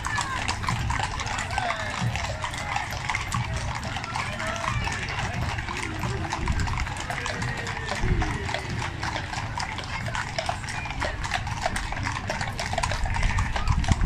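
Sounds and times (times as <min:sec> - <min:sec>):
horse hooves clip-clopping on tarmac: 0:00.0 - 0:14.0.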